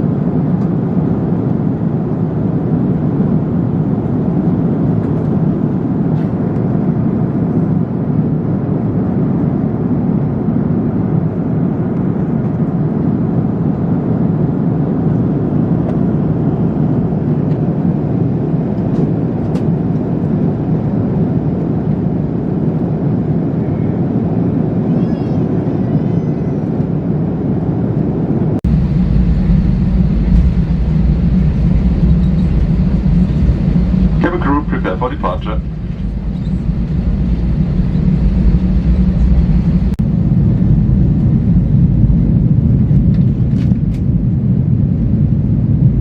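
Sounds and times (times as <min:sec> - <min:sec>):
jet engine and airflow roar: 0:00.0 - 0:46.0.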